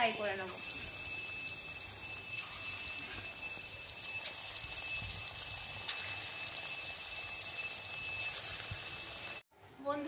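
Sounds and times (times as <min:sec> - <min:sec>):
steady high-pitched tone: 0:00.0 - 0:09.4
batter sizzling in hot oil: 0:00.1 - 0:09.4.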